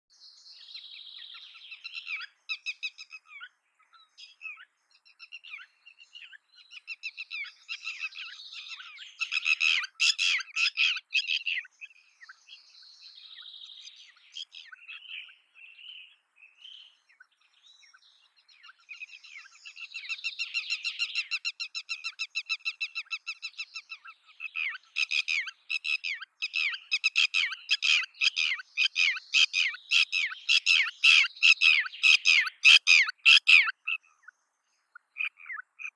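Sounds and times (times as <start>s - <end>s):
lapwing calling: 1.3s - 3.5s, 4.2s - 12.6s, 13.3s - 34.3s, 34.9s - 35.9s.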